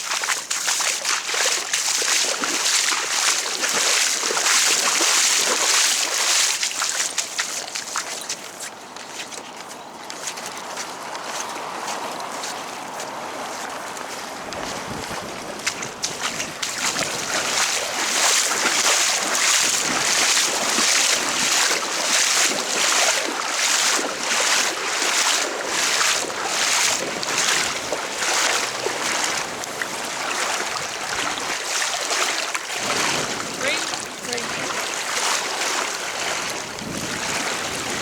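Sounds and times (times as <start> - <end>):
wading through floodwater: 0.0 - 38.0.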